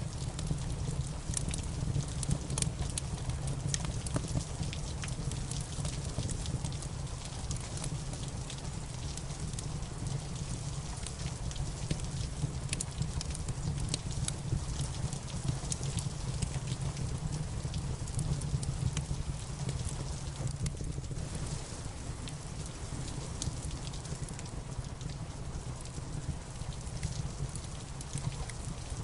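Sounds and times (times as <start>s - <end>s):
steady rain: 0.0s - 29.0s
wood fire crackling: 0.0s - 29.0s.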